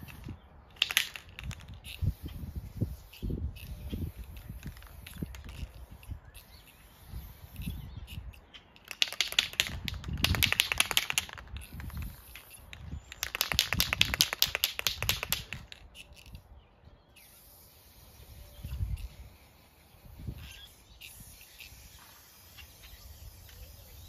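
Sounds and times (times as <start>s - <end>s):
spray can rattling being shaken: 0.0s - 16.4s, 17.3s - 24.0s.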